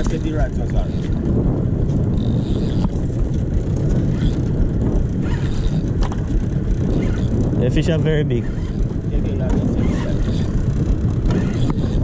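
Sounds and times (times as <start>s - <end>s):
outboard motor running: 0.0s - 12.0s
wind noise: 0.0s - 12.0s.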